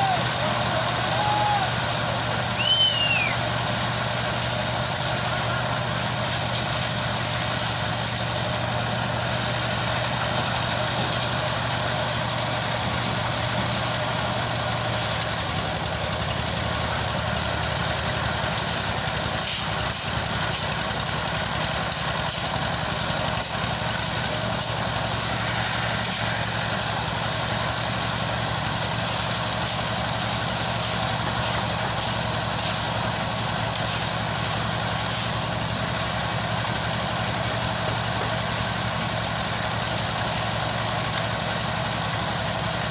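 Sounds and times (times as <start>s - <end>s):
heavy engine idling: 0.0s - 42.9s.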